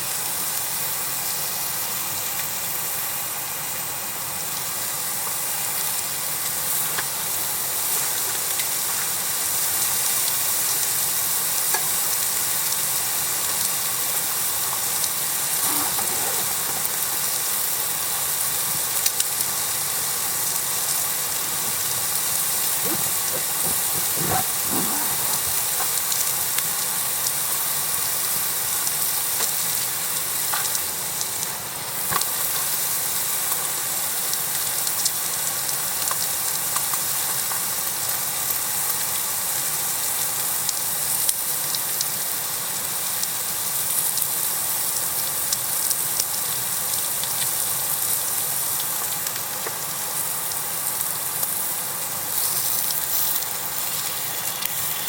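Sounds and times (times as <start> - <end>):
food sizzling on a griddle: 0.0 - 55.0.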